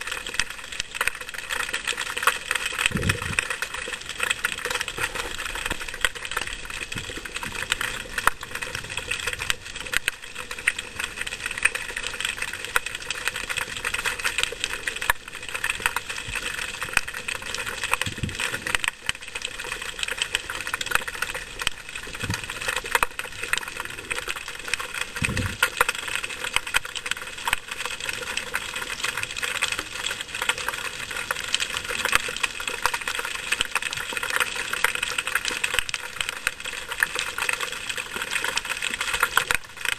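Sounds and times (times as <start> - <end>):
underwater crackle of tiny clicks: 0.0 - 39.9.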